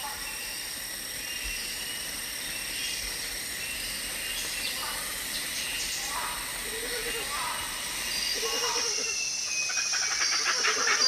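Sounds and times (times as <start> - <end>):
faint insect chirps: 0.0 - 11.0
insects buzzing: 0.0 - 11.0.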